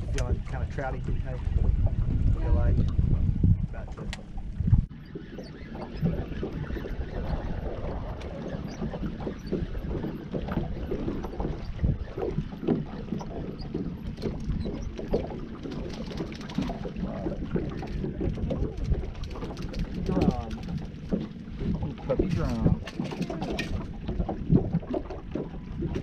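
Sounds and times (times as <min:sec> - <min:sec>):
water lapping against boat hull: 0:00.0 - 0:26.0
wind on microphone: 0:00.0 - 0:26.0.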